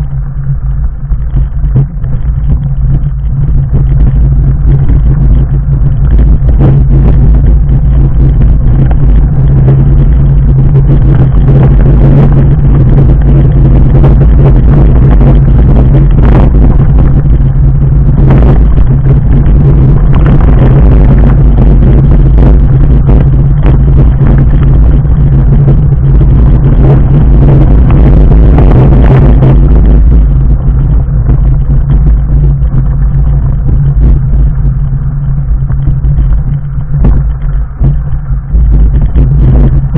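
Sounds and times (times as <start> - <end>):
bike tyres rumbling on rocks: 0.0 - 39.9.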